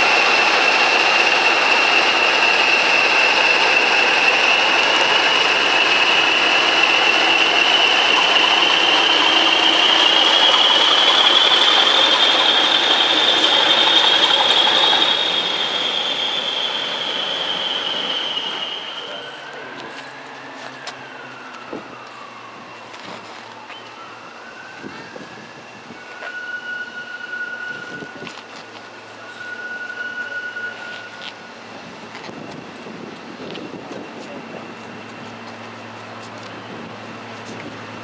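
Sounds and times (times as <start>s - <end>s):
high-pitched turbocharger whistle: 0.0s - 32.7s
diesel locomotive engine: 0.0s - 38.0s.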